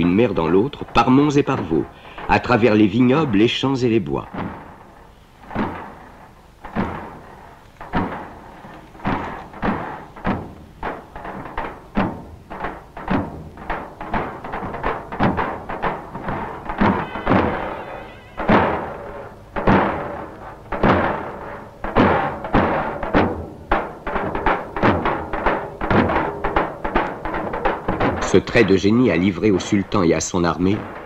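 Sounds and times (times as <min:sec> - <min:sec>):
repeated drum strokes: 0:00.0 - 0:31.0.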